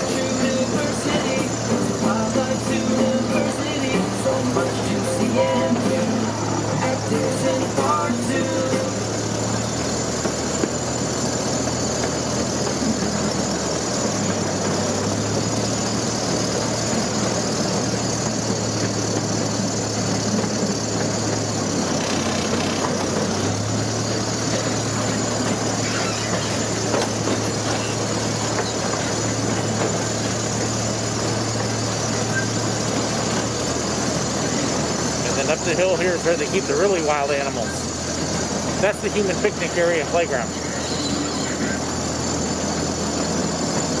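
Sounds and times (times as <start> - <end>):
train cars rumbling and rattling: 0.0 - 44.0
train engine drone: 0.0 - 44.0.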